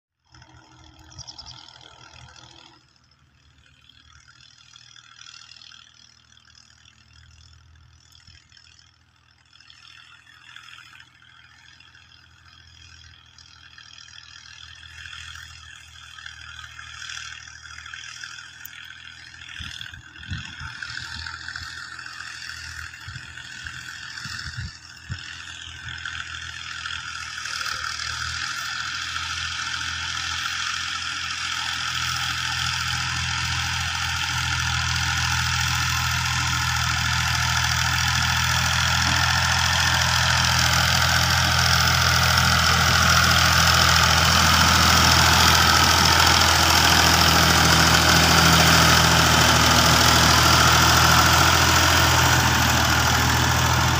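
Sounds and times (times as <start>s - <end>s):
tractor diesel engine running: 0.3s - 53.9s.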